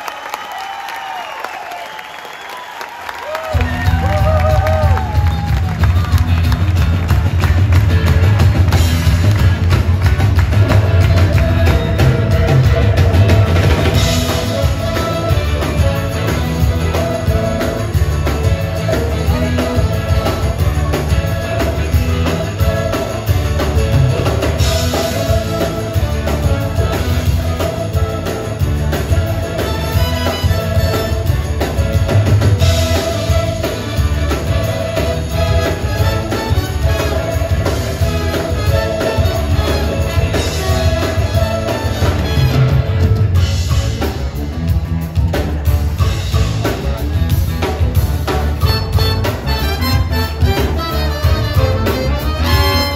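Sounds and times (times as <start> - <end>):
live band playing upbeat music: 3.2 - 52.9.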